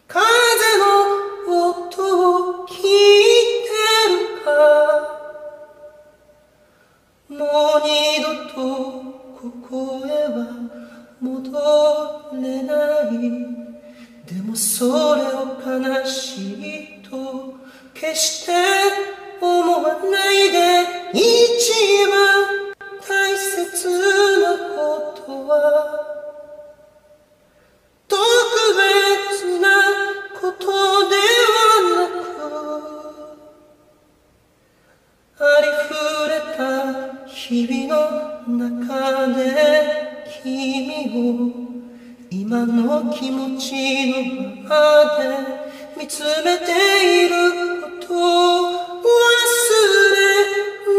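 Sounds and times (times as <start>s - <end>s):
person singing slow song: 0.0s - 50.9s.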